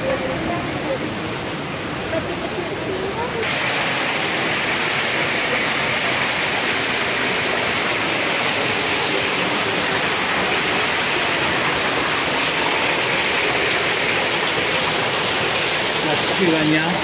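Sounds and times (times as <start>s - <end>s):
waterfall pouring onto rocks: 0.0s - 17.0s.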